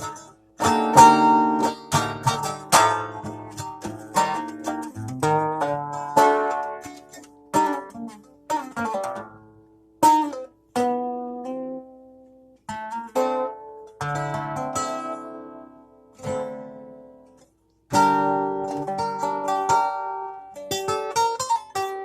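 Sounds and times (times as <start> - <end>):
plucked string instrument: 0.0 - 22.0.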